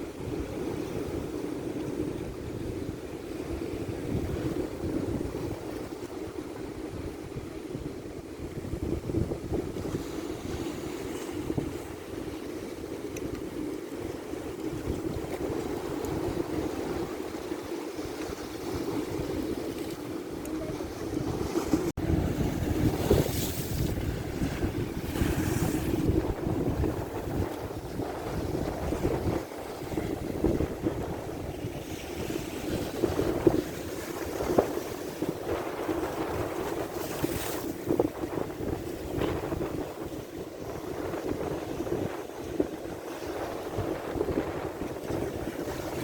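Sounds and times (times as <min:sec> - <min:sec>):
ocean waves washing in: 0:00.0 - 0:46.0
wind buffeting microphone: 0:00.0 - 0:46.0.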